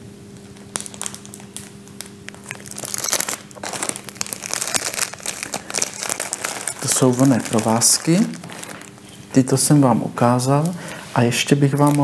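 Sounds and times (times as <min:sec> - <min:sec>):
faint steady hum: 0:00.0 - 0:12.0
wrapping crinkling: 0:00.4 - 0:12.0.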